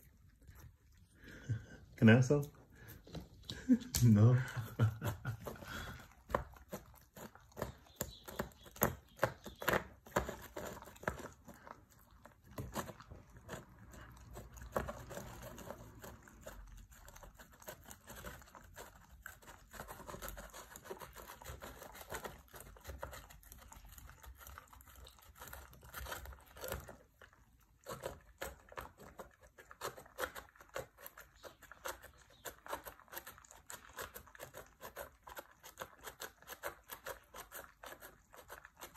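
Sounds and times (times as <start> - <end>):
dog eating wetly: 0.0 - 38.9.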